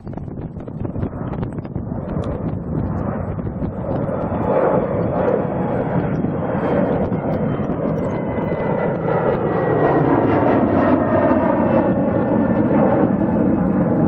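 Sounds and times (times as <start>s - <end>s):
high engine whine: 0.0s - 14.0s
jet airliner engines roaring: 0.0s - 14.0s.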